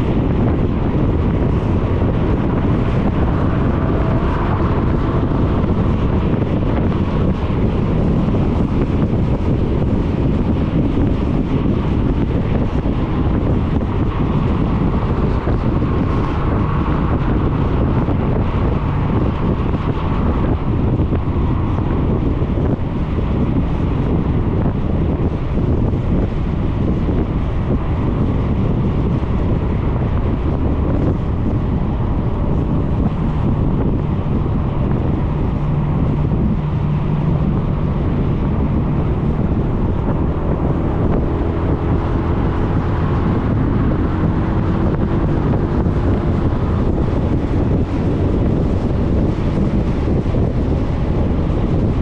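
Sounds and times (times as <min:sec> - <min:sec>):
scooter engine and road noise: 0:00.0 - 0:52.0
wind buffeting microphone: 0:00.0 - 0:52.0.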